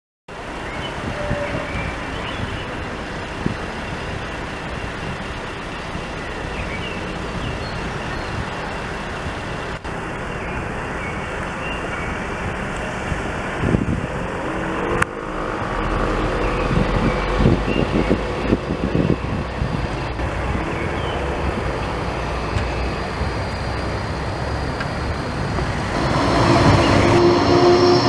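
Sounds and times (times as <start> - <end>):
city street noise: 0.3 - 28.0
tram rolling on tracks: 0.3 - 28.0.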